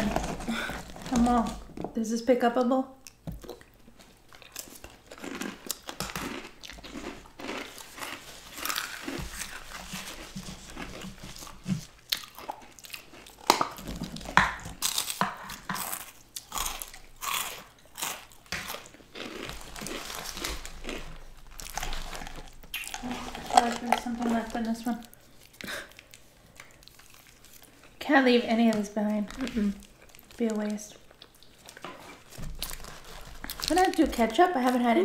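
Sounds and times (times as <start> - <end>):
chewing and crunching food: 0.0 - 2.0, 3.0 - 35.0.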